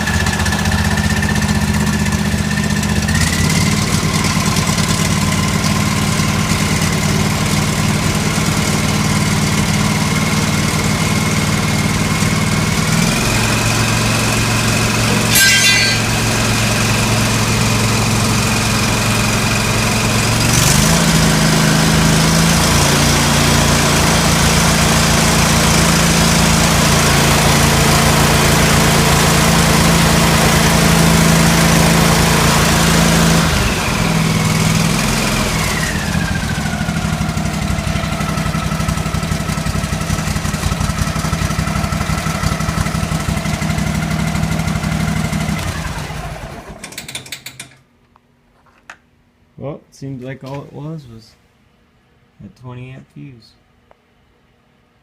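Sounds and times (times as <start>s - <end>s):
lawn tractor engine running: 0.0s - 47.8s.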